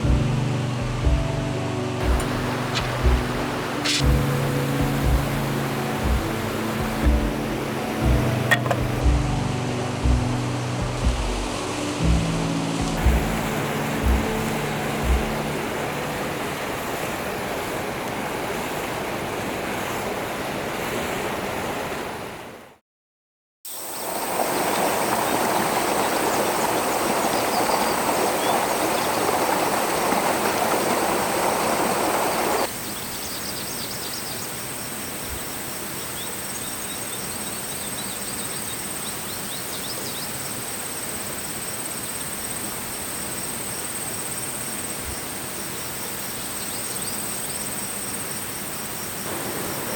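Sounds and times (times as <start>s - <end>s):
stream water running: 0.0s - 22.7s, 23.7s - 49.9s.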